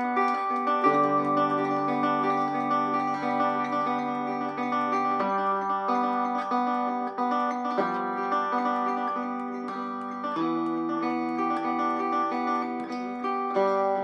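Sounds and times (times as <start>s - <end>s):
banjo finger-picked: 0.0s - 14.0s.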